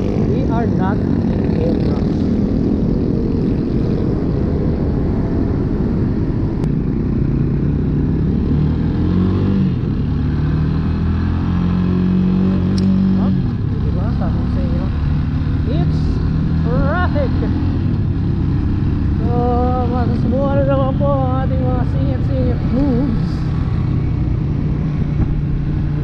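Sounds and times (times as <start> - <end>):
motorcycle engine running: 0.0 - 26.0
road and traffic noise: 0.0 - 26.0.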